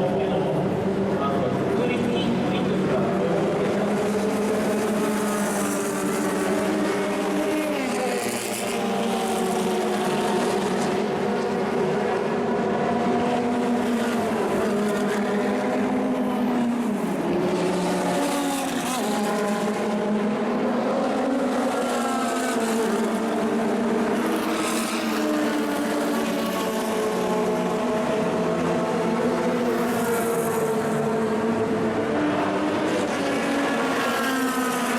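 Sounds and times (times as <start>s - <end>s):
racing car engine at high revs: 0.0s - 34.9s.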